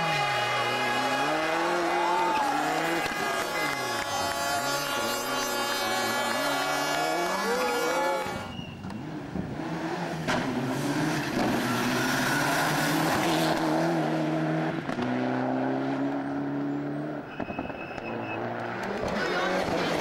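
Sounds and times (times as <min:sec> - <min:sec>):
rally car engine revving: 0:00.0 - 0:17.3, 0:18.0 - 0:20.0.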